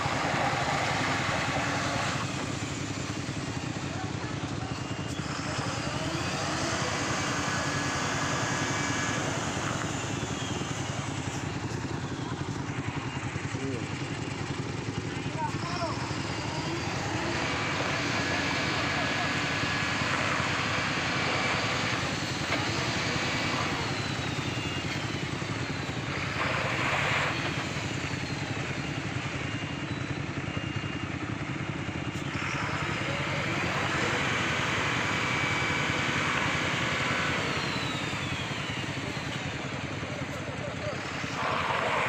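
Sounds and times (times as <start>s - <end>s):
traffic engines: 0.0s - 42.0s
truck engine running: 0.0s - 42.0s.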